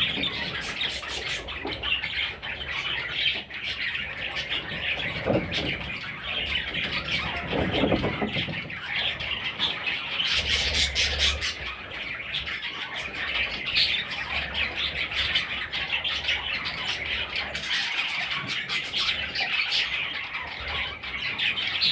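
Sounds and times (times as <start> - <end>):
budgerigar chicks squawking: 0.0 - 21.9.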